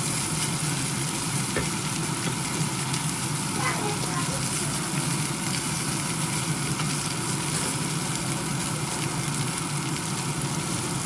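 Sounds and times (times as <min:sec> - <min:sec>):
onion sizzling in a frying pan: 0:00.0 - 0:11.0.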